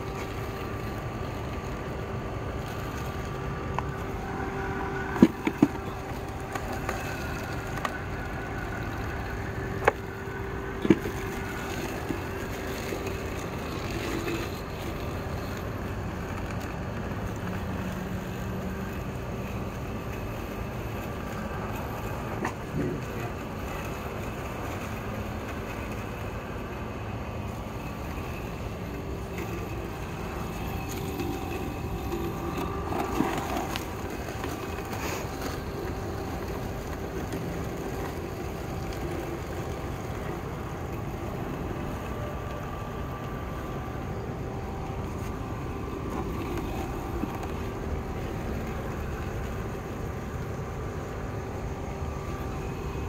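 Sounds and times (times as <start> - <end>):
robotic lawn mower humming: 0.0 - 53.0.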